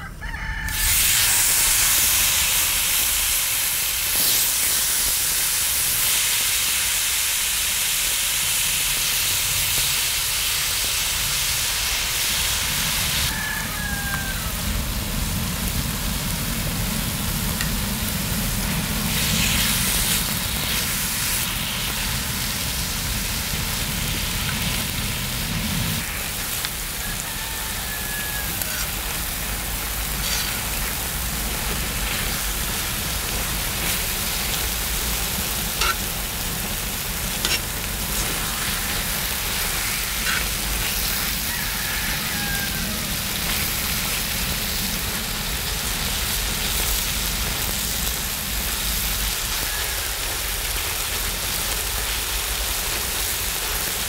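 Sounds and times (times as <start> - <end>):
meat sizzling on a hot griddle: 0.3 - 54.0.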